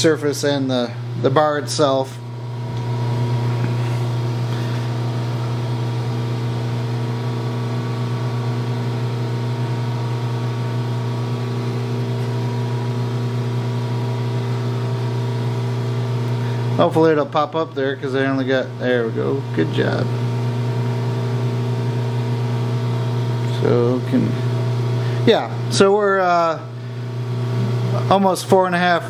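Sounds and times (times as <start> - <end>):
lathe motor humming: 0.0 - 29.0.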